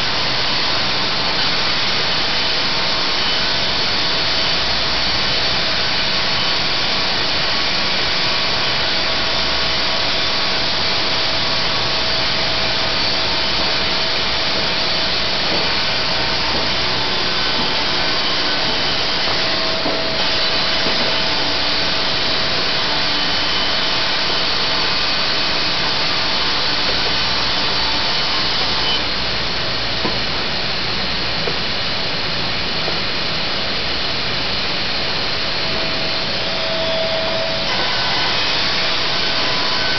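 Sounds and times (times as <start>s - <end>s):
sawmill blade cutting board: 0.0s - 29.1s, 35.4s - 39.9s.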